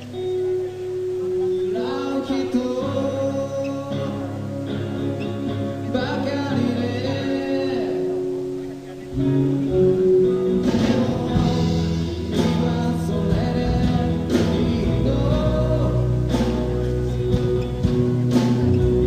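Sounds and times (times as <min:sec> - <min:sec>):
band playing a song: 0:00.0 - 0:19.0
person singing: 0:00.0 - 0:19.0.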